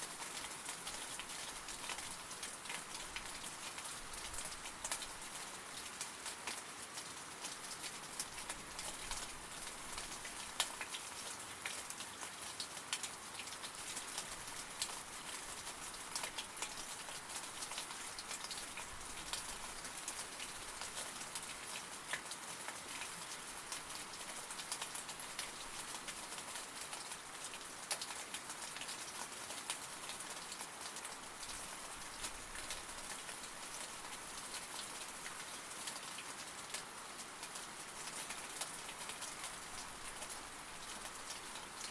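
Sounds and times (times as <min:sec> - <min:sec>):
rain falling: 0:00.0 - 0:41.9
raindrops ticking on a surface: 0:00.0 - 0:41.9.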